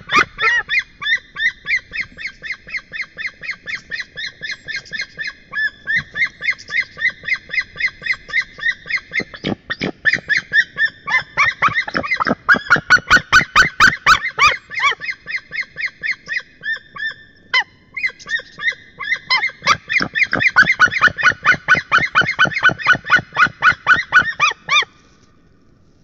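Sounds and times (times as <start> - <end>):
eagles yelping calls: 0.0 - 17.2, 18.0 - 24.9.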